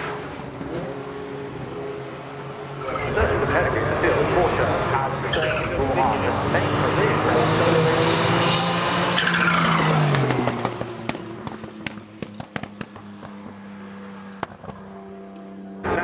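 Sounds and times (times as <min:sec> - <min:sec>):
race car engine passing: 0:00.0 - 0:16.0.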